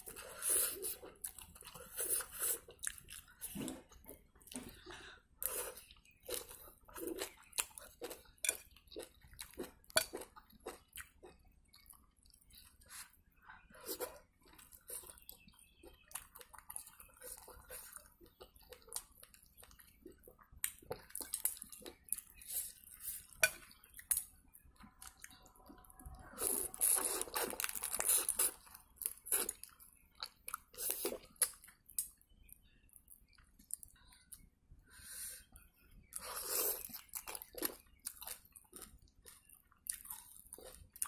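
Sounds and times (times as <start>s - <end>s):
person chewing food: 0.0s - 41.0s.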